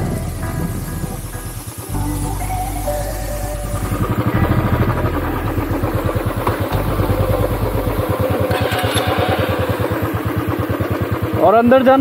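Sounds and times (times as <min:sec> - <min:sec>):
motorcycle engine running at low revs: 0:00.0 - 0:12.0
second motorcycle engine: 0:00.0 - 0:12.0.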